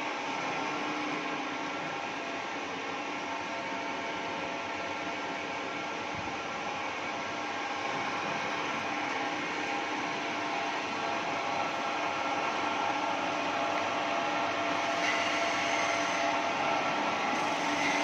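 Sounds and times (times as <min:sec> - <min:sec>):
boring machine hum and whine: 0:00.0 - 0:18.0.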